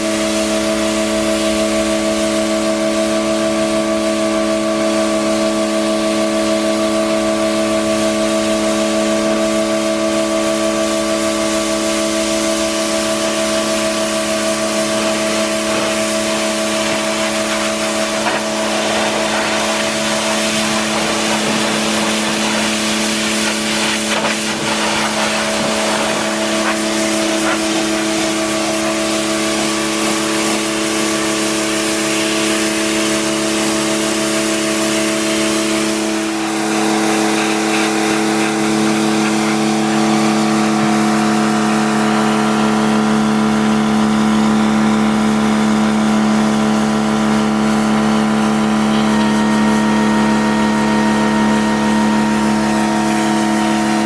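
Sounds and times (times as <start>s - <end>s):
water jet hissing on stone: 0.0s - 50.1s, 52.0s - 54.0s
pressure washer motor hum: 0.0s - 54.0s.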